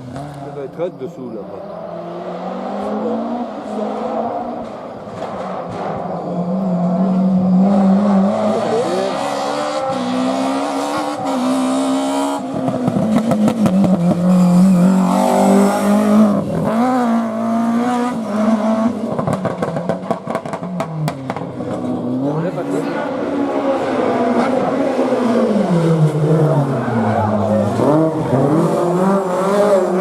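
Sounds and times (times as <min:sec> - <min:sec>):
rally car engine at full throttle: 0:00.0 - 0:30.0.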